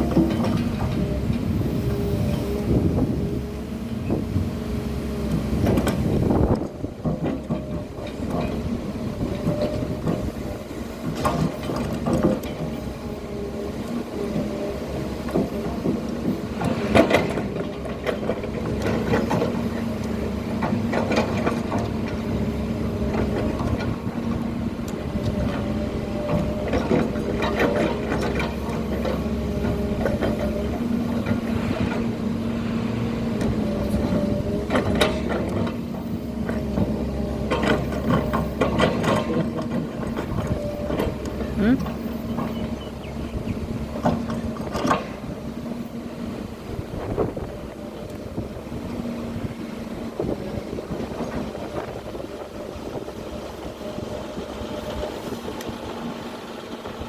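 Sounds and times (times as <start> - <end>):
excavator engine and hydraulic hum: 0.0 - 57.0.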